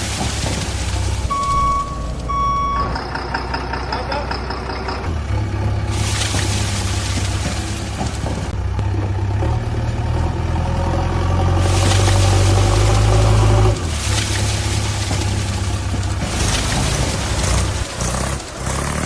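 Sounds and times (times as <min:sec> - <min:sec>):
heavy machinery engine running: 0:00.0 - 0:19.0.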